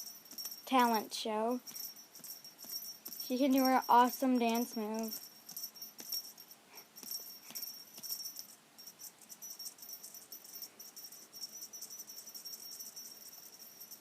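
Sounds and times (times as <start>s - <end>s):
metal cat toy jingling: 0.0s - 14.0s.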